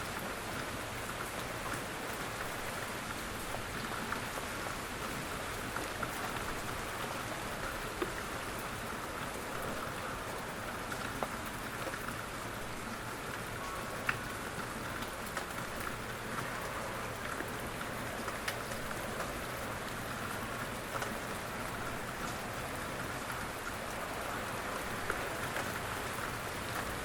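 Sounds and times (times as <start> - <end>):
gentle rain falling: 0.0 - 27.0.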